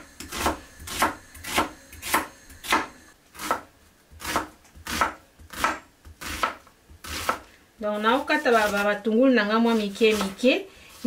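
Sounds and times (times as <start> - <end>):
knife slicing onion on wooden board: 0.0 - 9.0, 9.6 - 11.0.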